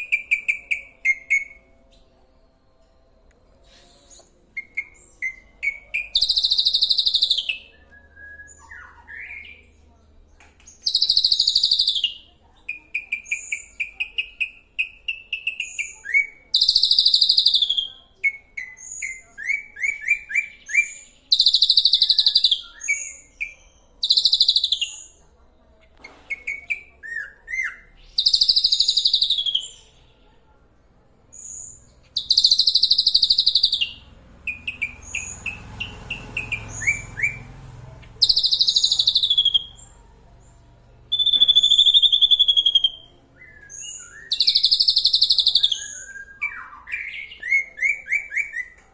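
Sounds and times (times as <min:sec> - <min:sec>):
songbird singing harsh phrases: 0:00.0 - 0:02.6, 0:03.3 - 0:30.4, 0:31.1 - 0:48.9.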